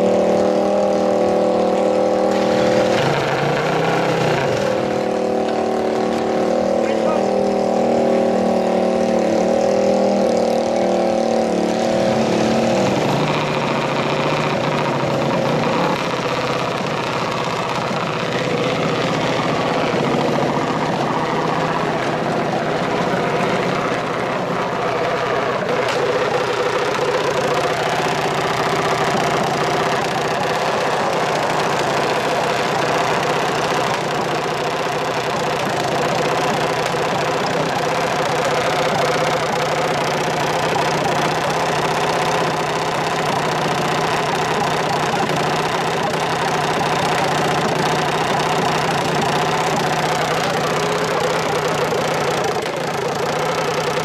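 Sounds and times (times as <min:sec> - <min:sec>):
dragster engine idling: 0:00.0 - 0:54.0.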